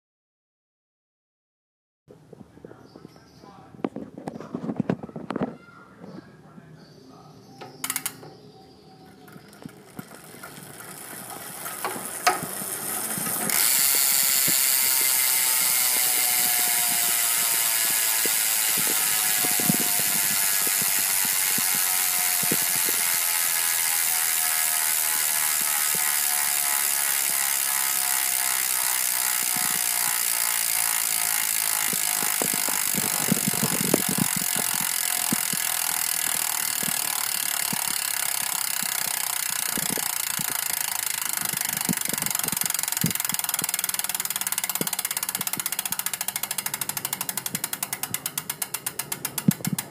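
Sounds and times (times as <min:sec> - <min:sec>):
bicycle hub ratchet buzzing: 0:07.6 - 0:08.4, 0:09.0 - 0:49.9.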